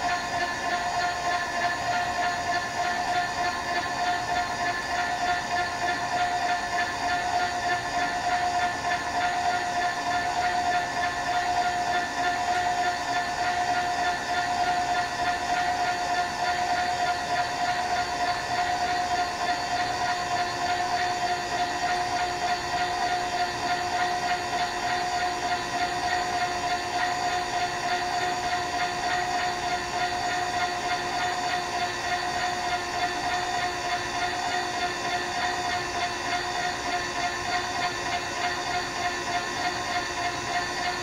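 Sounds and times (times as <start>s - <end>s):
steady mechanical whine: 0.0s - 41.0s.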